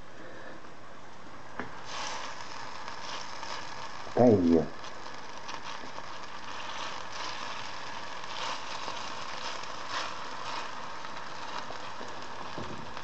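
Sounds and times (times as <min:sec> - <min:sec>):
cutlets sizzling in oil: 0:01.6 - 0:13.0.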